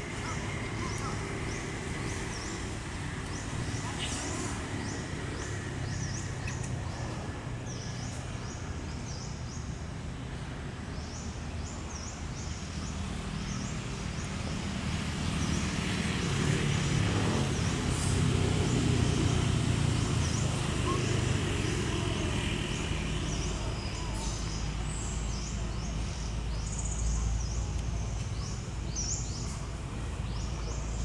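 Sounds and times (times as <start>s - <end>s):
road traffic rumble: 0.0s - 31.0s
vehicle approaching: 0.0s - 31.0s.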